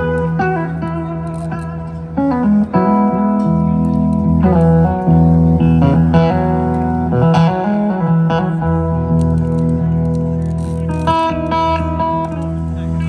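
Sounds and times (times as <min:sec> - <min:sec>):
electric slide guitar: 0:00.0 - 0:13.0
keyboard chords: 0:00.0 - 0:13.0
sustained bass: 0:00.0 - 0:13.0.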